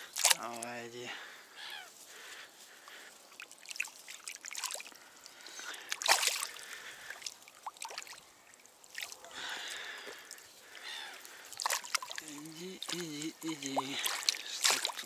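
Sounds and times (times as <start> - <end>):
water splashes and drips: 0.0 - 0.9, 2.7 - 15.0.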